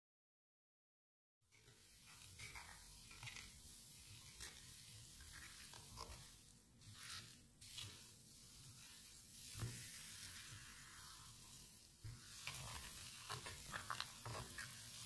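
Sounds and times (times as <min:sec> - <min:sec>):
spatula stirring in metal bowl: 0:01.5 - 0:15.0.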